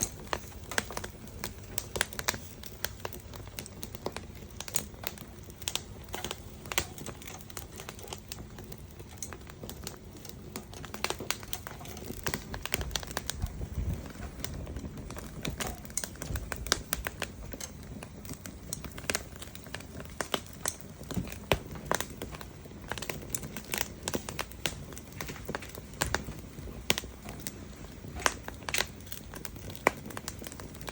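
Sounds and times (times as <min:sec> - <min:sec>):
wood fire crackling and popping: 0:00.0 - 0:30.9.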